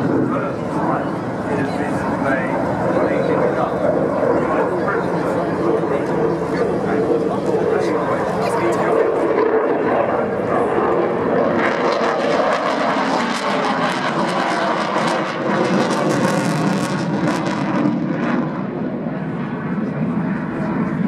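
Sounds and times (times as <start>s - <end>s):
jet noise with crackle: 0.0s - 21.0s.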